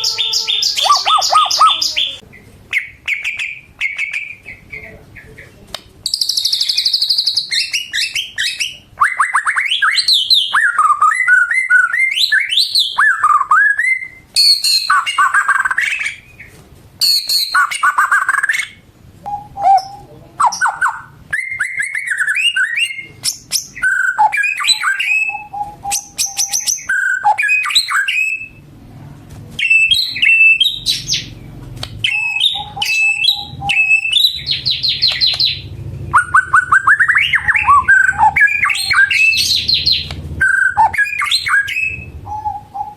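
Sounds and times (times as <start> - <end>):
bird singing varied song: 0.0 - 28.6, 29.6 - 42.9.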